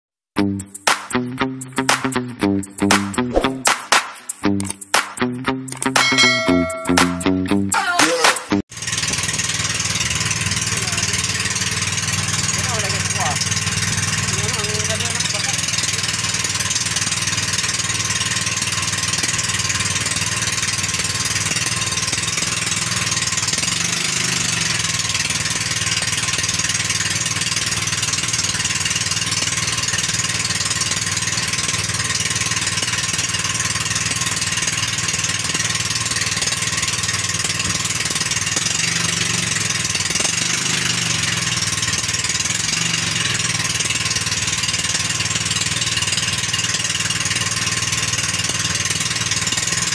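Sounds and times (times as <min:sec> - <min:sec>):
boat engine droning: 0:08.8 - 0:49.9.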